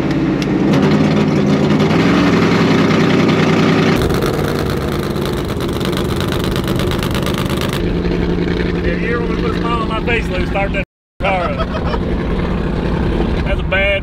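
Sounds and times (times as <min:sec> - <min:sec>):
car engine running steadily: 0:00.0 - 0:14.0.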